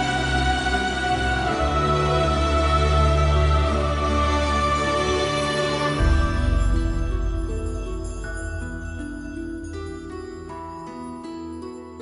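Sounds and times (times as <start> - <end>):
background music of sustained notes: 0.0 - 12.0.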